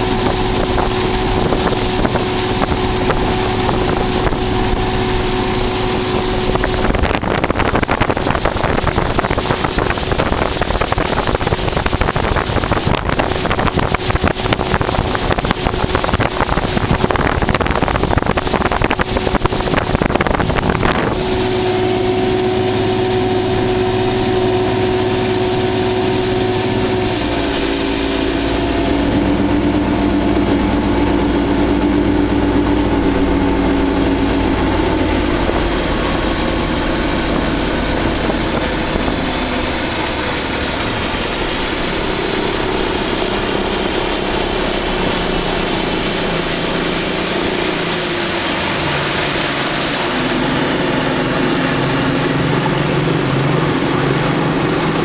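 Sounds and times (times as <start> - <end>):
outboard motor running: 0.0 - 55.0
wind buffeting microphone: 0.0 - 55.0.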